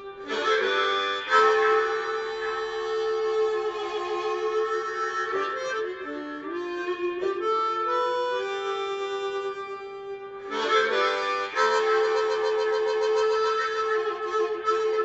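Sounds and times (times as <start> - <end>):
harmonica playing blues melody: 0.0 - 15.0.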